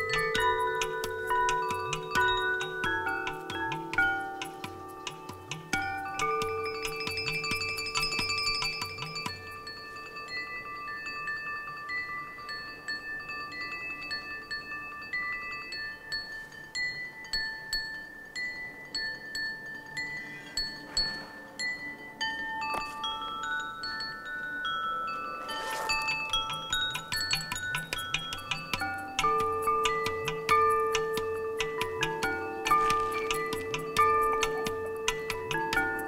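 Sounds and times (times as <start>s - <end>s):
porcelain bowls and chimes ringing: 0.0s - 36.0s.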